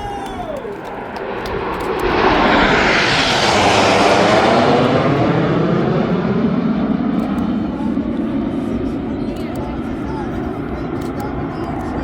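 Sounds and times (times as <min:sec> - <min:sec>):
jets flying past: 0:00.7 - 0:12.0.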